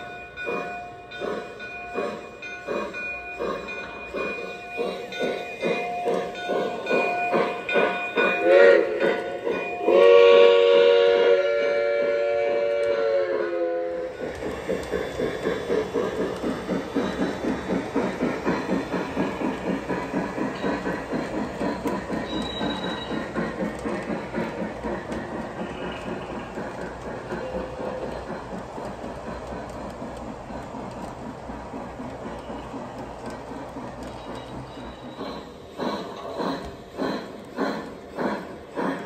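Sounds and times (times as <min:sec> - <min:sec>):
model train running on track: 0:00.0 - 0:39.0.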